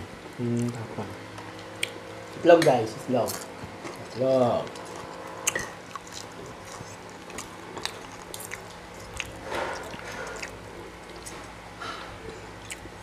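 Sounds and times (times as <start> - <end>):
people chewing: 0.4 - 2.4, 3.6 - 13.0.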